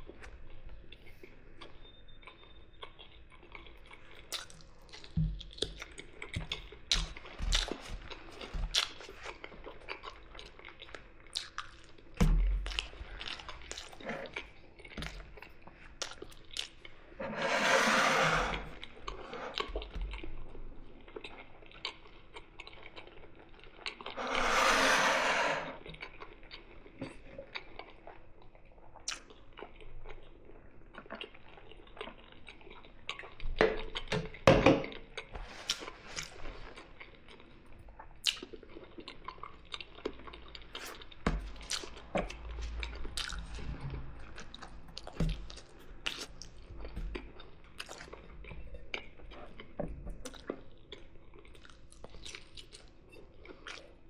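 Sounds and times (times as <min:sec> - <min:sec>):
chewing food: 0:00.0 - 0:17.3, 0:18.6 - 0:24.3, 0:25.8 - 0:54.0.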